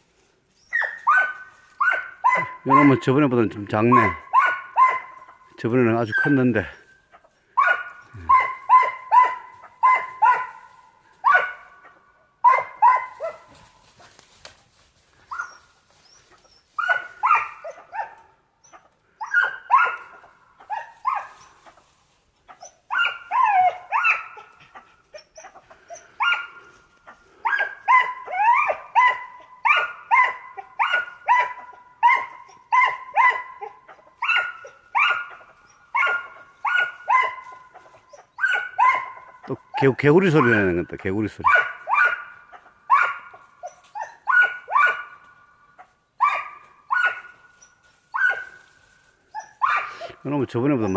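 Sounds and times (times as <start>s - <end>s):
marten barking calls: 0.7s - 14.2s, 15.1s - 50.9s.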